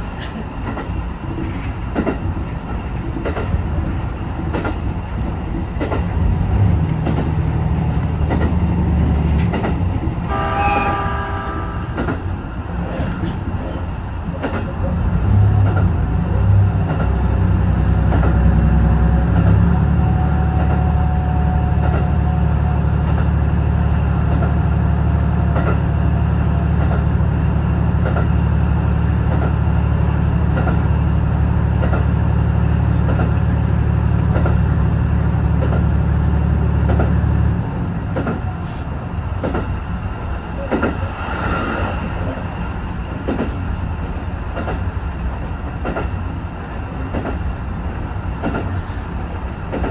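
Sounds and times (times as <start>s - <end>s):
railcar engine drone: 0.0s - 49.9s.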